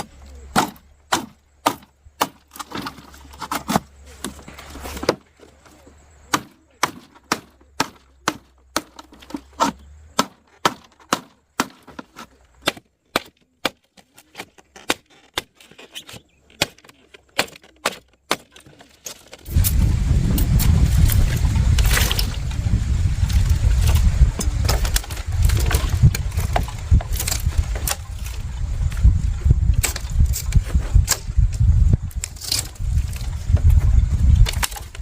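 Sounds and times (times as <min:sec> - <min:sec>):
wood chopping strikes: 0:00.0 - 0:05.3, 0:06.2 - 0:22.6, 0:23.3 - 0:29.0, 0:29.6 - 0:31.4.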